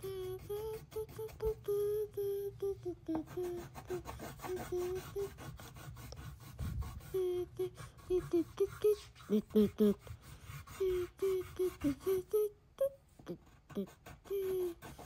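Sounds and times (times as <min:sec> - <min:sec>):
pencil scratching on paper: 0:00.0 - 0:01.8, 0:02.7 - 0:12.5, 0:13.1 - 0:15.0
child humming: 0:00.0 - 0:05.6, 0:07.0 - 0:15.0.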